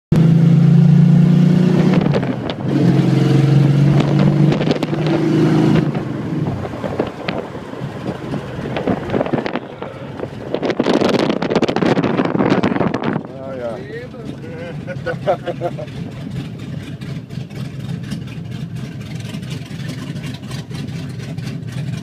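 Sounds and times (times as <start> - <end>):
car engine accelerating: 0.1 - 22.0
road and wind noise: 0.1 - 22.0.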